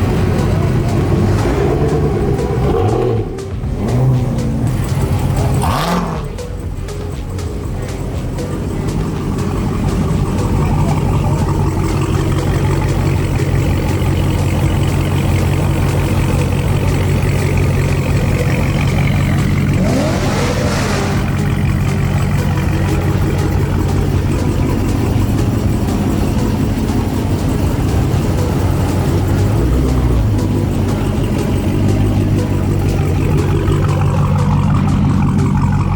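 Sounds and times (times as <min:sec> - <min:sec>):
car engine running: 0:00.0 - 0:35.9.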